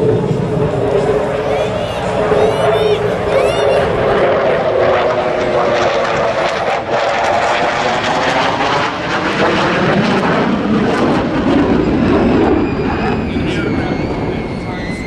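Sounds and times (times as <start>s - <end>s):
jet engines passing by: 0.0s - 15.0s.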